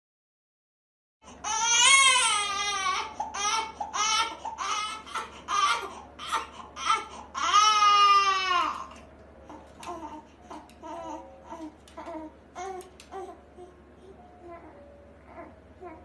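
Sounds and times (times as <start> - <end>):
newborn baby crying: 1.4 - 16.0.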